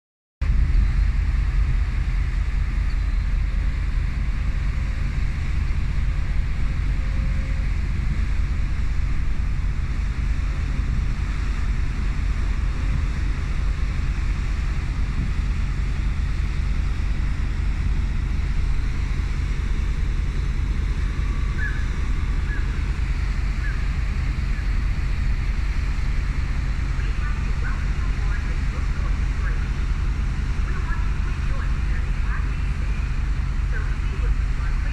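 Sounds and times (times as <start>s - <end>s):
ferry diesel engines rumbling: 0.4s - 34.9s
wind on microphone: 0.4s - 34.9s.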